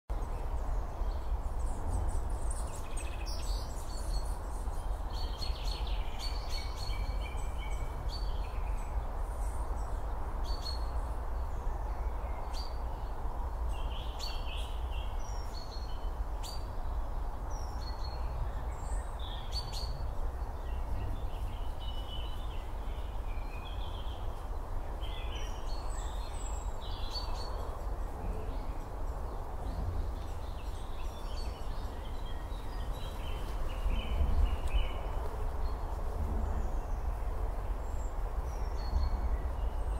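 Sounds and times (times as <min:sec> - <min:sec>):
low rushing background noise: 0:00.1 - 0:39.9
small birds chirping: 0:00.1 - 0:39.9.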